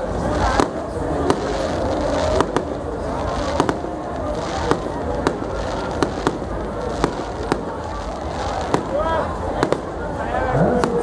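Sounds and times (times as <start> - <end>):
crowd chatter: 0.0 - 11.0
fireworks exploding: 0.0 - 11.0.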